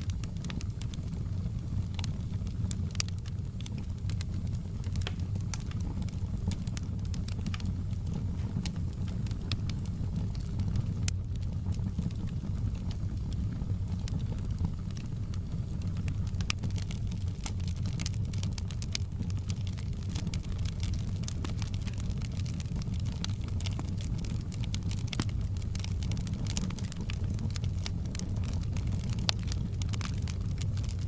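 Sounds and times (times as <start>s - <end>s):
fire crackles and pops: 0.0s - 31.0s
roar of fire flames: 0.0s - 31.0s.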